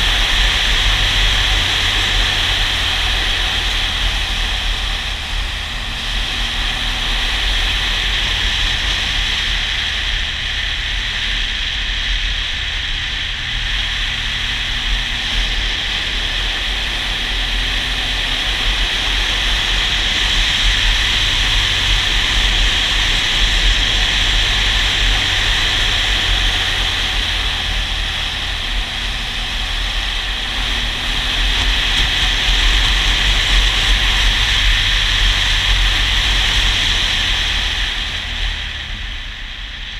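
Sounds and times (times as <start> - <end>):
motorcycle engine hum: 0.0 - 39.9.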